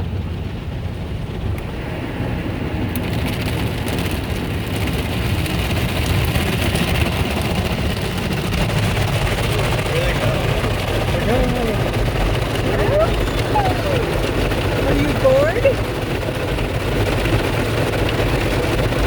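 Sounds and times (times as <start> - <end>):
car wash machine rumble: 0.0 - 19.0.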